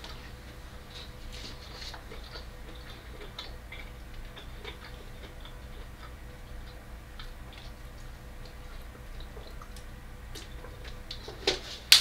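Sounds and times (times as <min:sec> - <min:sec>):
chewing crunchy raw vegetables: 0:00.0 - 0:11.8
steady low hum: 0:00.0 - 0:12.0.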